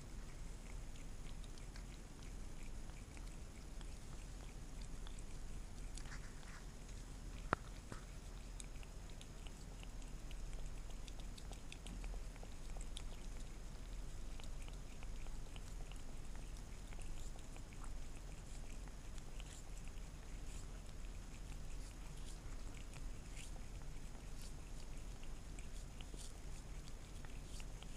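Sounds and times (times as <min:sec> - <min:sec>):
cat licking: 0:00.0 - 0:27.9.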